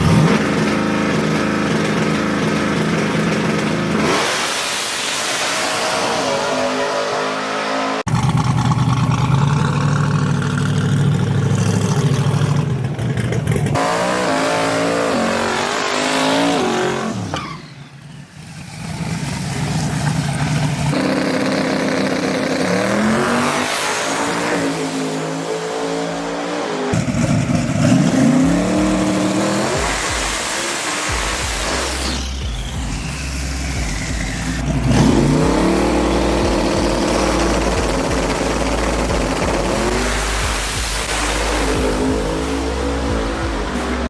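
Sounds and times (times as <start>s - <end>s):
truck engines revving: 0.0s - 44.0s.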